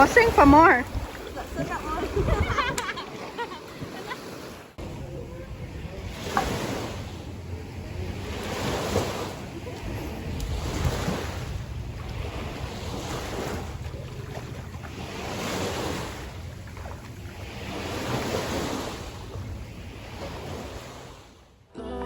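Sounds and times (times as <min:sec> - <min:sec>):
wind buffeting microphone: 0:00.0 - 0:04.0, 0:04.8 - 0:21.3
sea waves washing onto shore: 0:00.0 - 0:21.4.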